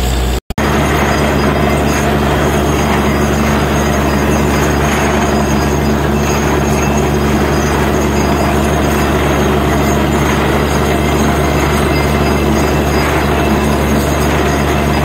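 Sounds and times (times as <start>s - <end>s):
drilling rig engine drone: 0.0s - 15.0s.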